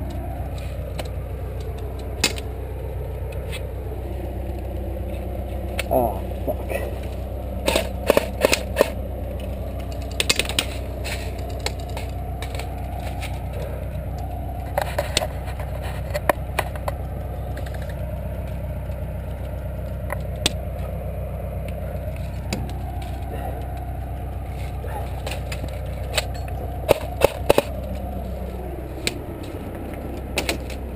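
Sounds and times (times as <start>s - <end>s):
low rumble: 0.0s - 30.9s.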